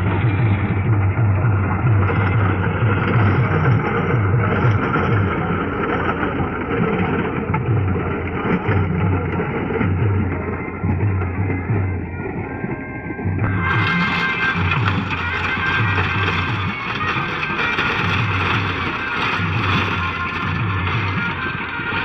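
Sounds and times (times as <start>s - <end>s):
rotavator churning: 0.0s - 22.0s
tractor diesel engine running: 0.0s - 22.0s.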